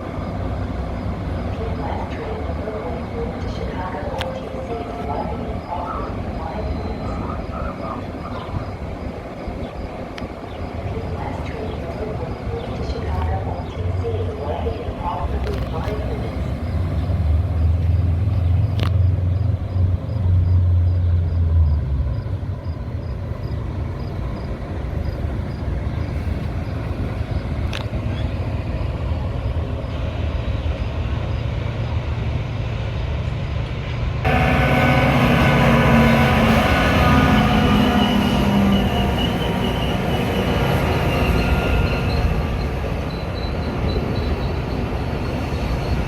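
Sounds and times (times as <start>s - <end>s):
train engine drone: 0.0s - 46.0s.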